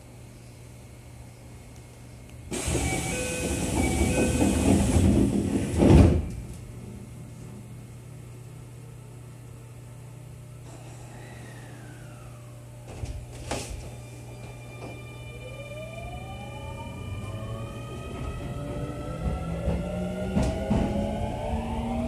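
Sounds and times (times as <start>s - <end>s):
train interior low hum: 0.0s - 22.0s.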